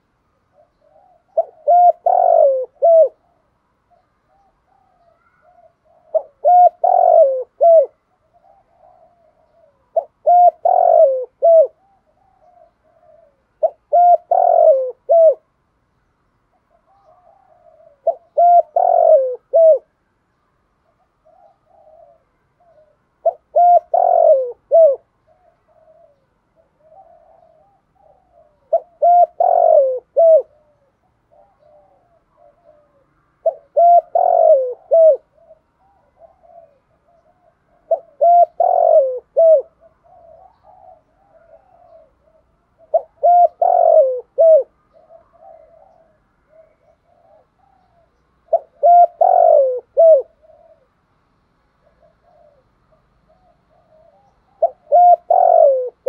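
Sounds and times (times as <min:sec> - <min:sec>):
dove cooing: 0:00.0 - 0:15.6, 0:16.4 - 0:20.0, 0:20.8 - 0:56.0.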